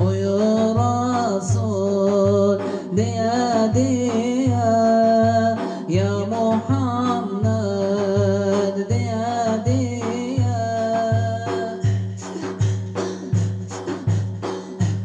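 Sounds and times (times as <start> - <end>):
man singing a hymn: 0.0 - 12.5
deep rhythmic vocal pulse: 0.0 - 15.0.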